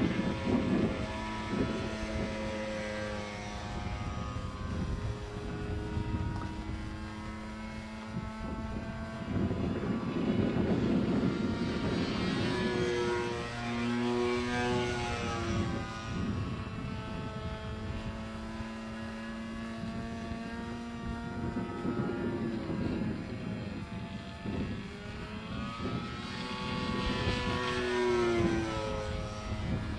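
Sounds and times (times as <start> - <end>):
propeller plane flying overhead: 0.0 - 29.9.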